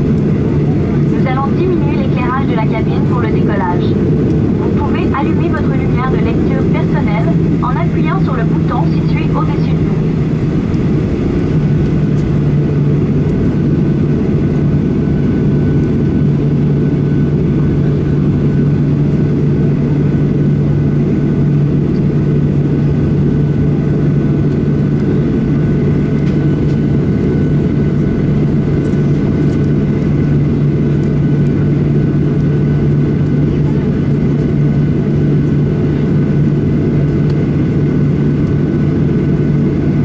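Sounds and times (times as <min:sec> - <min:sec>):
jet engines humming in cabin: 0:00.0 - 0:40.0.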